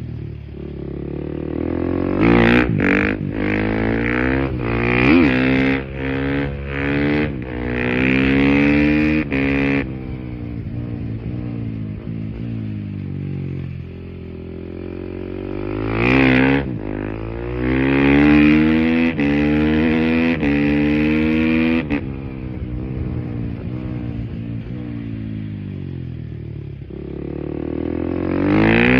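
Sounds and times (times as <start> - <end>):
motorcycle engine accelerating: 0.0 - 28.9.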